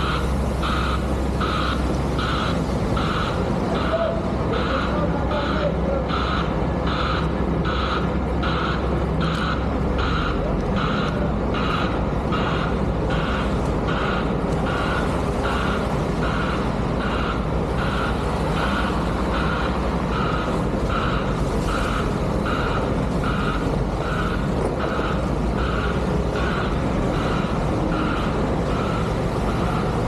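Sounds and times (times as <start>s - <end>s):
heavy diesel equipment running: 0.0s - 30.0s
reversing alarm beeping: 0.0s - 30.0s.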